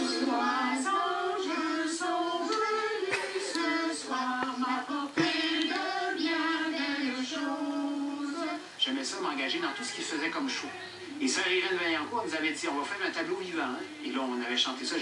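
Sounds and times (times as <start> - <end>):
women singing through tv speaker: 0.0 - 15.0.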